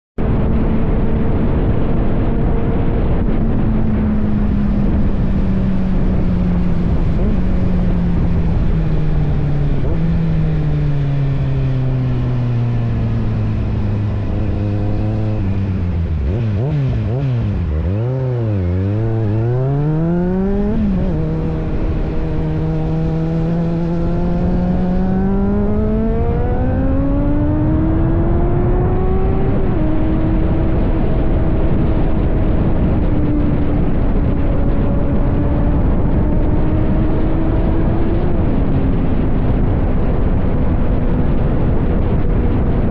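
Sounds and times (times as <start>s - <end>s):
motorcycle engine revving: 0.2s - 42.9s.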